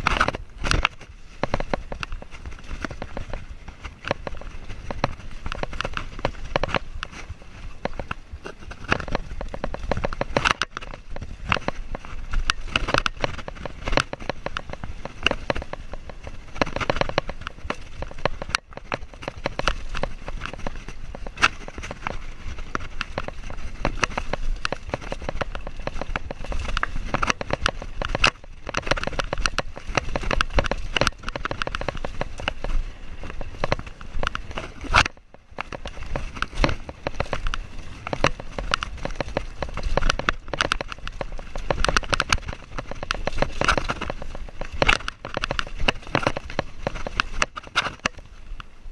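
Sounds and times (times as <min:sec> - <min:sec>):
camera rattling in mount: 0:00.0 - 0:48.8.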